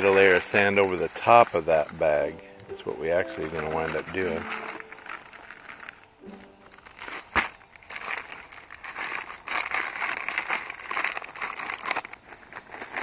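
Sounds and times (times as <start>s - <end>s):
bag crinkling: 0.0s - 13.0s.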